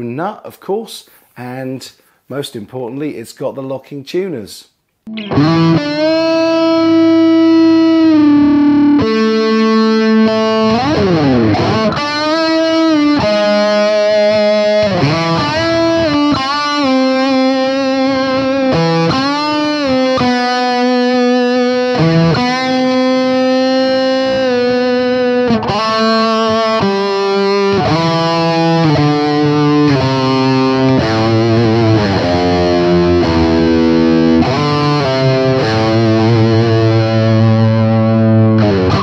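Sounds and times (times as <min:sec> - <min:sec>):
distorted electric guitar lead: 0:05.1 - 0:39.0.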